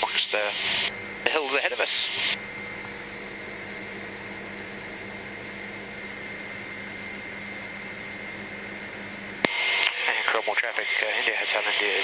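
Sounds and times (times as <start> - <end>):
helicopter cabin drone: 0.0 - 12.0
thin high whine: 0.0 - 12.0.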